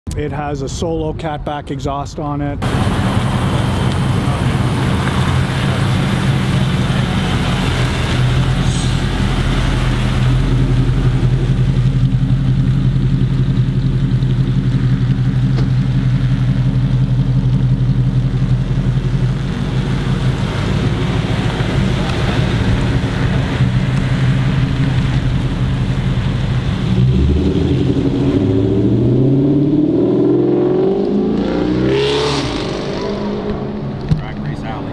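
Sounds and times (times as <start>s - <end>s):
car engine revving: 2.6s - 34.9s.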